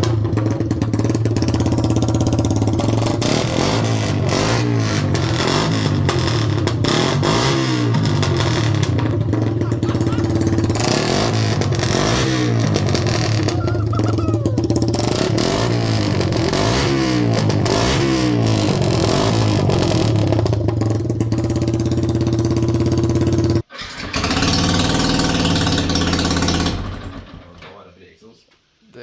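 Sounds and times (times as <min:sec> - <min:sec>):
motorcycle engine idling and revving: 0:00.0 - 0:27.6.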